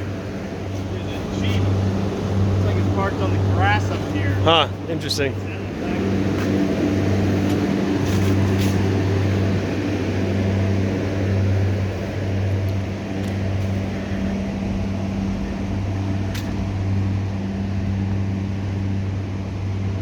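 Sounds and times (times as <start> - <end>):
generator engine humming: 0.0 - 20.0.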